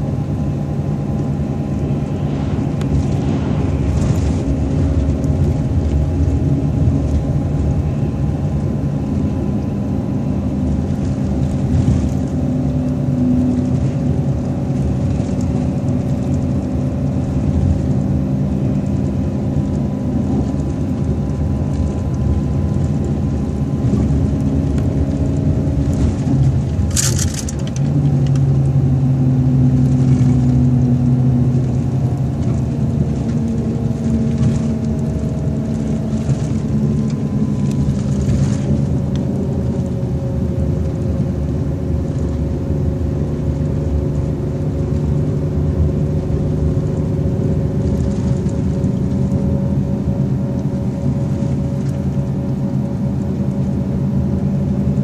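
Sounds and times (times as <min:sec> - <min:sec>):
coach engine running: 0:00.0 - 0:55.0
tyre and road rumble: 0:00.0 - 0:55.0.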